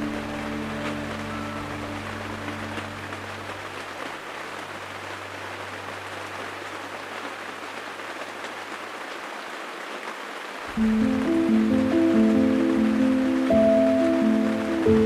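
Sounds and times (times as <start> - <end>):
raindrops ticking: 0.0 - 15.0
steady rain hiss: 0.0 - 15.0.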